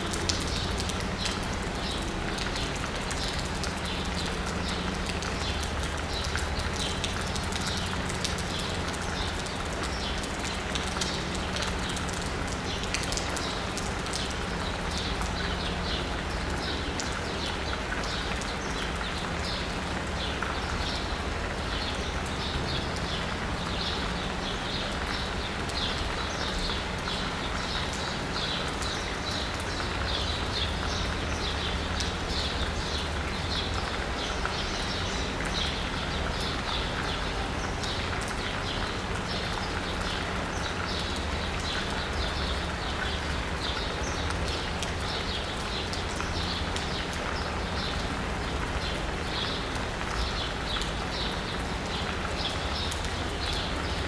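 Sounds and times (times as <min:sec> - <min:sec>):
rain pattering on asphalt and roof: 0:00.0 - 0:54.0.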